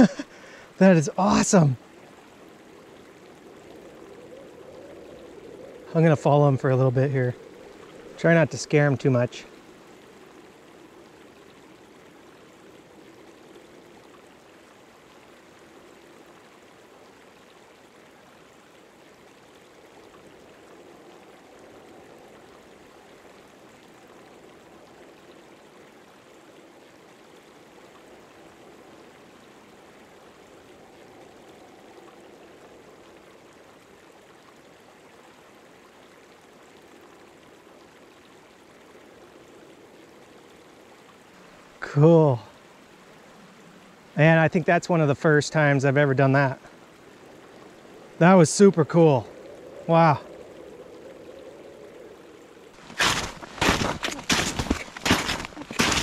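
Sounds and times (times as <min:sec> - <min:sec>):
river rushing over shallow bed: 0:00.0 - 0:56.0.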